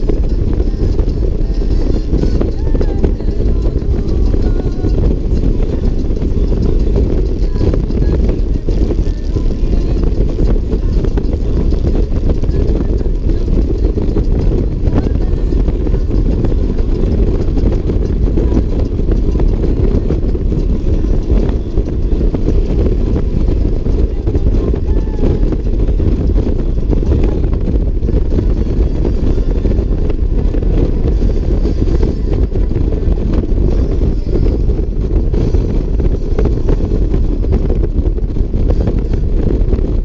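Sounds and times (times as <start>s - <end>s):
motorcycle engine cruising: 0.0s - 40.0s
wind rushing: 0.0s - 40.0s.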